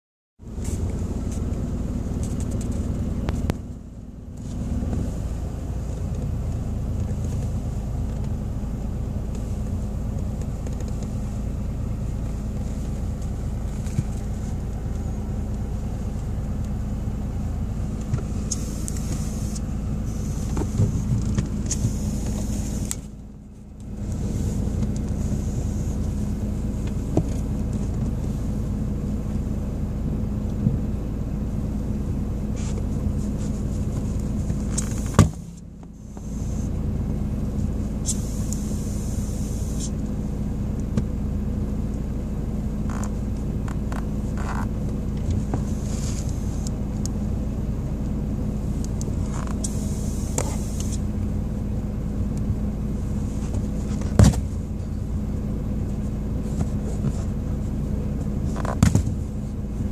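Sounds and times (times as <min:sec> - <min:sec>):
car engine humming: 0:00.4 - 0:59.9.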